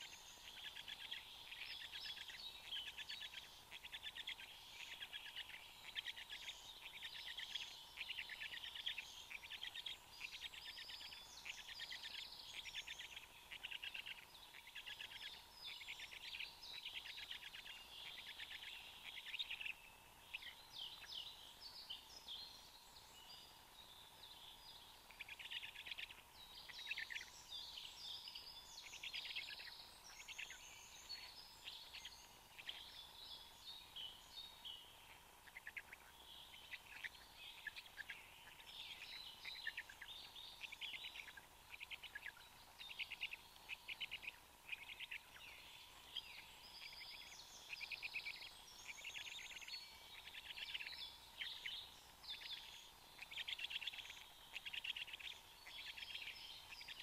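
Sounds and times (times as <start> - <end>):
faint steady tone: 0.0 - 57.0
songbirds singing: 0.0 - 57.0.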